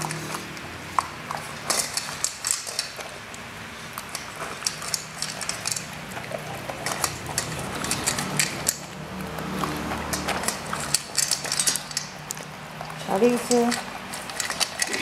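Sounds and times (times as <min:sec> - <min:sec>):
pet crunching food: 0:00.0 - 0:15.0.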